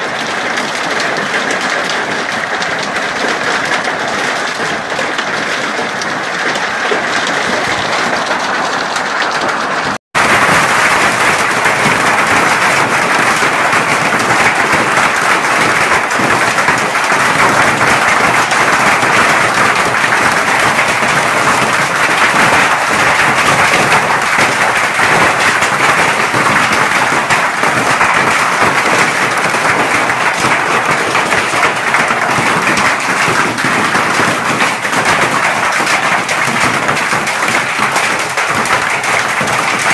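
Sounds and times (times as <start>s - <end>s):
heavy hail clattering: 0.0s - 39.9s.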